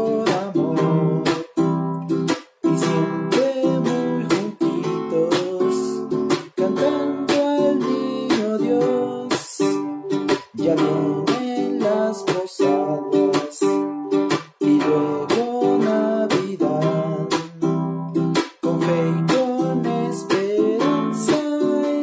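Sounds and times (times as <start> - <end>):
man singing: 0.0 - 1.8, 2.6 - 22.0
acoustic string instrument strumming: 0.0 - 22.0.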